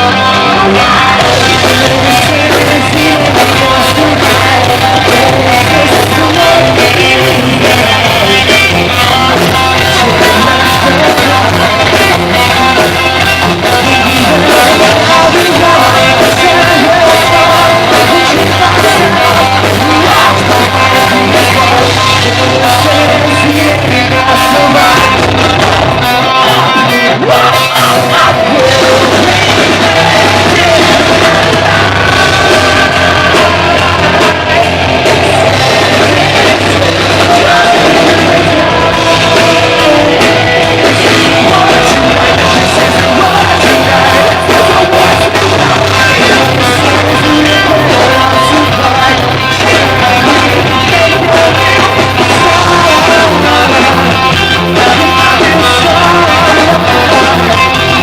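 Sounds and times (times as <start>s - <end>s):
bass guitar: 0.0s - 58.0s
distorted guitars: 0.0s - 58.0s
drums: 0.0s - 58.0s
singing and shouted vocals: 0.0s - 58.0s.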